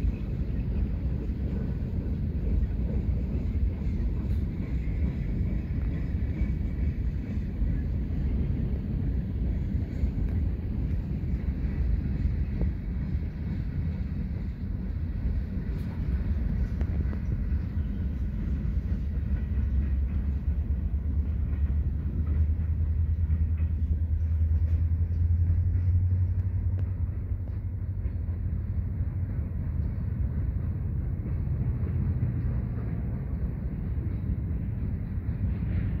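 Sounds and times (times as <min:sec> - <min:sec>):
freight train rumbling: 0:00.0 - 0:36.0.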